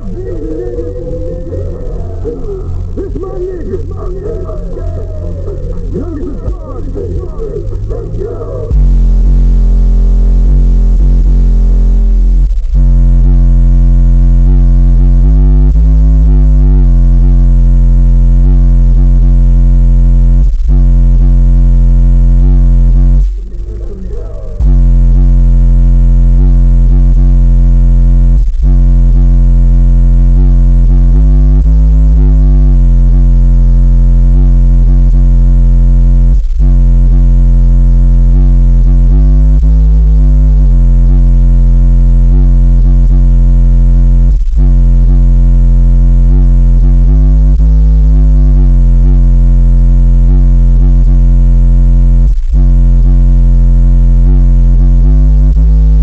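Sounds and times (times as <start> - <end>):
bass-boosted hip-hop through subwoofer: 0.0 - 56.0.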